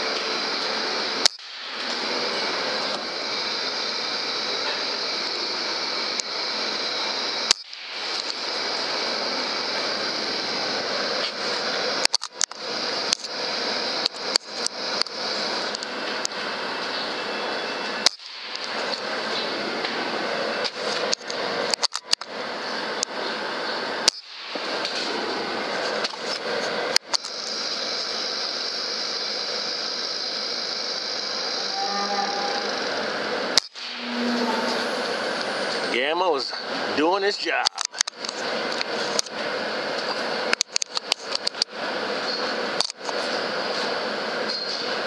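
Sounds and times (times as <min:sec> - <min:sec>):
steady recording hiss: 0:00.0 - 0:45.0.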